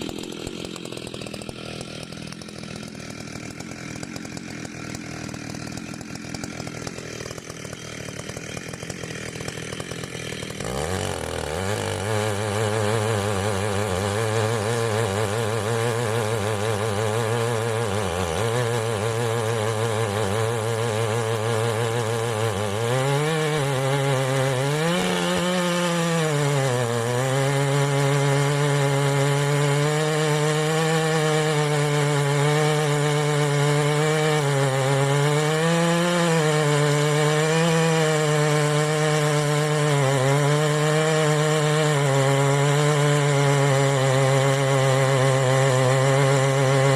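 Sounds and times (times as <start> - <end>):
chainsaw revving: 0.0 - 46.9.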